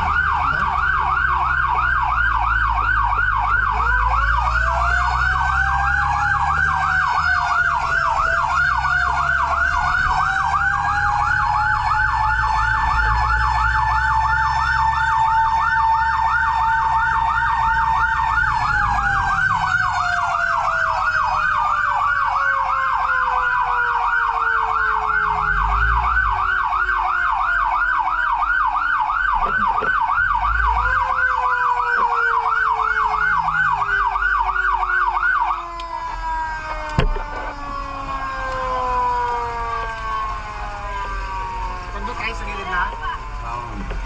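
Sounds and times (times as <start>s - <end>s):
electronic siren yelping: 0.0s - 44.0s
engine rumble: 0.0s - 44.0s
siren wail sliding down: 0.0s - 44.0s.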